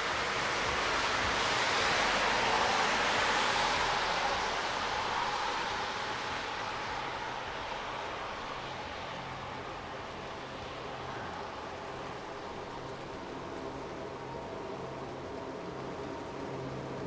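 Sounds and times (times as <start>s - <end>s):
tyres hissing on wet road: 0.0s - 17.0s.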